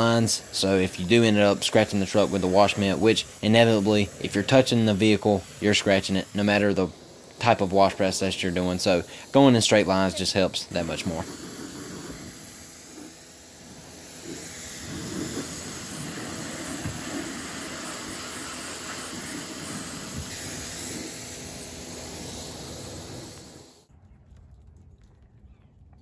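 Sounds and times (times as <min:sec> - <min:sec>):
pressure washer spraying: 0:00.0 - 0:23.9.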